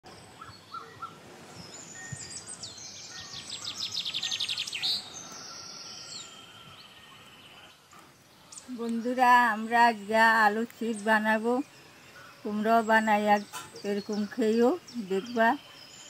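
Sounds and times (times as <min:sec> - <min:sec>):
birds singing: 0:00.1 - 0:16.0.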